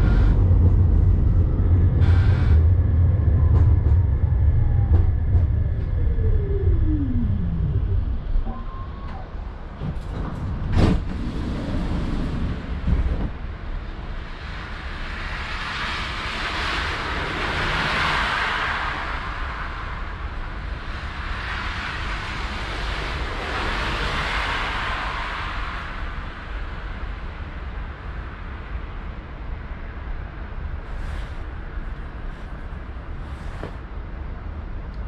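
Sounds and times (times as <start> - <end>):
tram rushing noise: 0.0 - 35.0.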